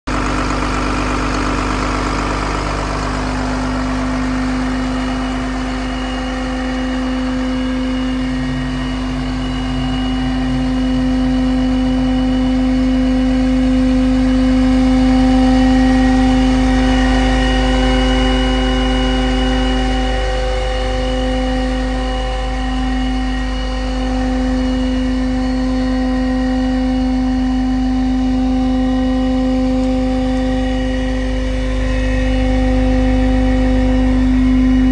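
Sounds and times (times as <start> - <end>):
truck engine and vacuum blower drone: 0.1 - 34.9.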